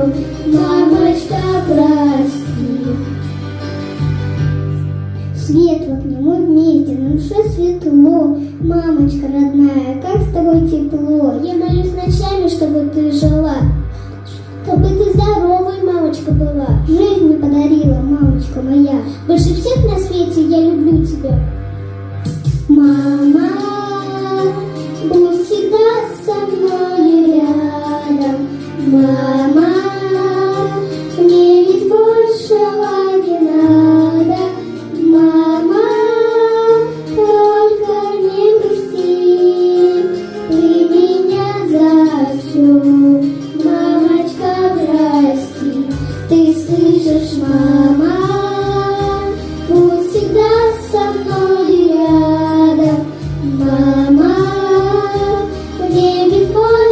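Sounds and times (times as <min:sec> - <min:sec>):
girls singing pop song: 0:00.0 - 0:03.9, 0:05.4 - 0:21.6, 0:22.2 - 0:56.9
instrumental backing track: 0:00.0 - 0:56.9.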